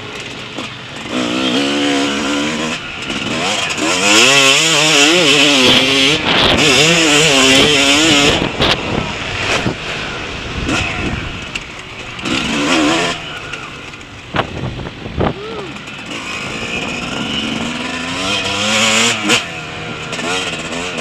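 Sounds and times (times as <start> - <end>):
motocross bike engine revving: 0.0 - 21.0
wind hiss: 1.6 - 19.2.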